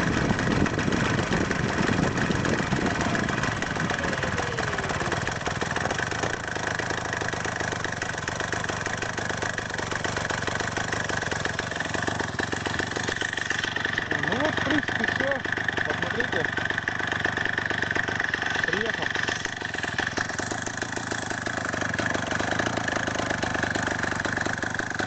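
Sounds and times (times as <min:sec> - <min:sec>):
two-stroke chainsaw engine running: 0:00.0 - 0:25.0.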